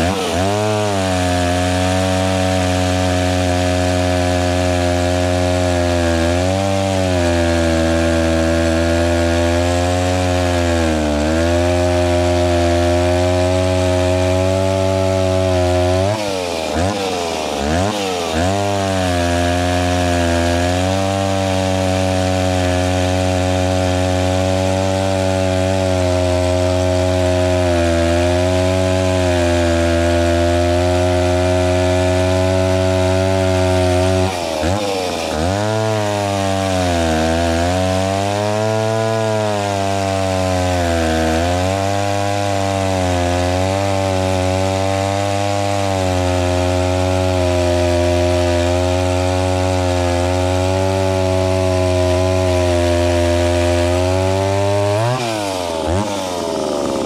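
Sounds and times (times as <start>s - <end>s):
chainsaw sawing through log: 0.0s - 57.0s.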